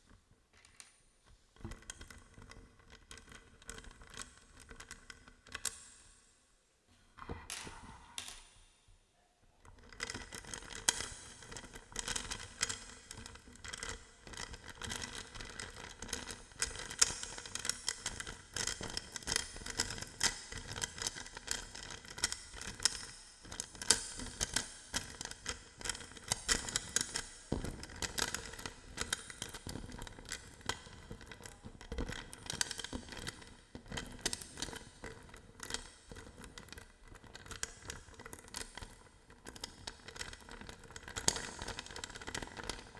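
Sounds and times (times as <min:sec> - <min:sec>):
balls clicking and crackling: 0:01.6 - 0:06.0, 0:09.6 - 0:42.9.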